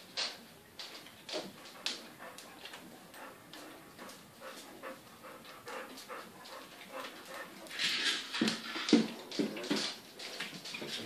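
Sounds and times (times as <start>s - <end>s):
paws scratching on plastic sheet: 0.9s - 11.0s.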